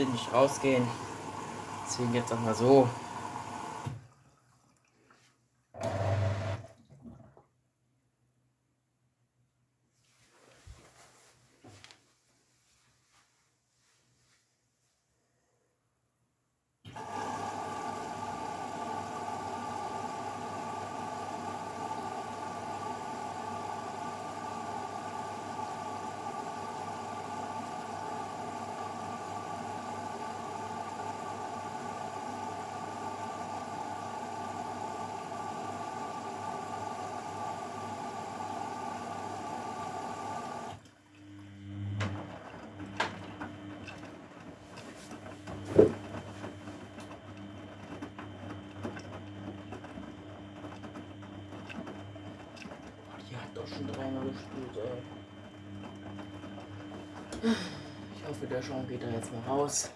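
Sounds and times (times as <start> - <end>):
water rushing through washing machine: 0.0 - 7.5, 16.9 - 59.9
washing machine low hum: 0.0 - 7.6, 16.9 - 59.9.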